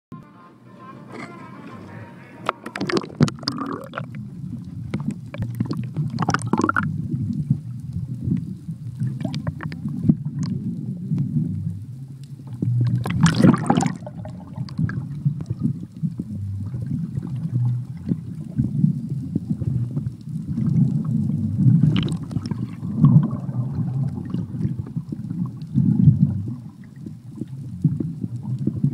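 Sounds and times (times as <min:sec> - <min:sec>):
muffled underwater rumble: 0:01.0 - 0:28.9
water gurgling splashes: 0:02.4 - 0:28.9.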